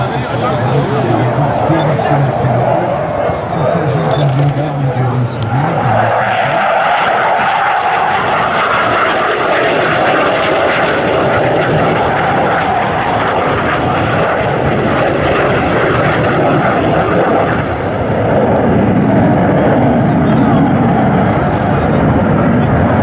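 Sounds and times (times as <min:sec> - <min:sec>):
jet engines roaring with whine: 0:00.0 - 0:23.0.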